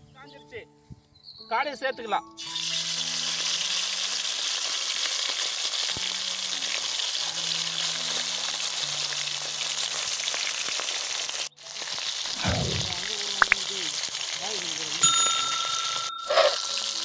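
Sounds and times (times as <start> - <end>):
food deep-frying in oil: 2.4 - 17.0.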